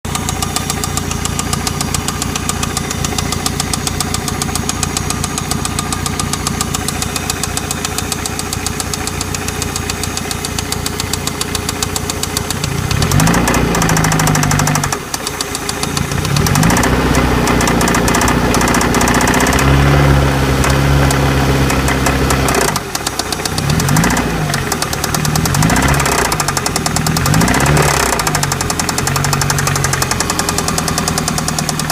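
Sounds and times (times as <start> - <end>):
outboard engine idling and revving: 0.1 - 31.9.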